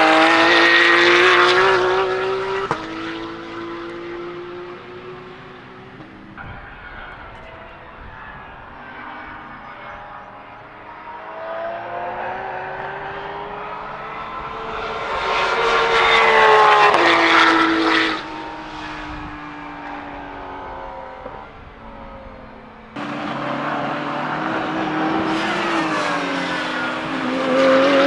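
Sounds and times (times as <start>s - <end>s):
race car engine passing by: 0.0s - 28.0s.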